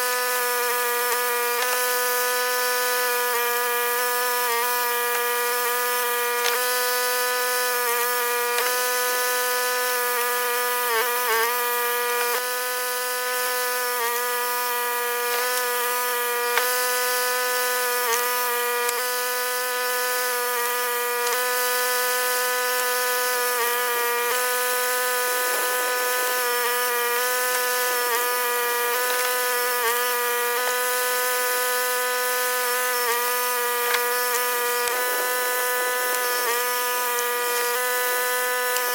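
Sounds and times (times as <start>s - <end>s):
log splitter running: 0.0s - 38.9s.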